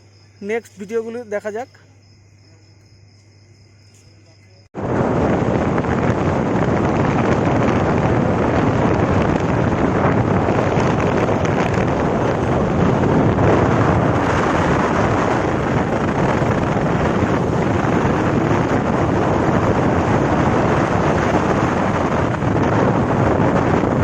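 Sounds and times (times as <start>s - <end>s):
wind rushing over microphone: 4.3s - 24.0s.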